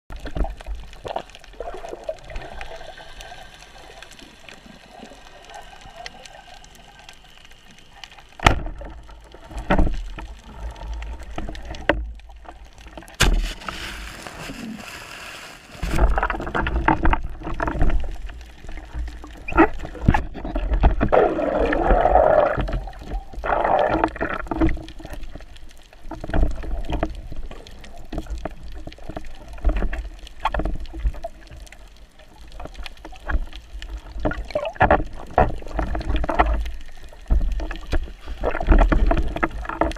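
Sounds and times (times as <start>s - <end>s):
muffled underwater sloshing: 0.1s - 39.9s.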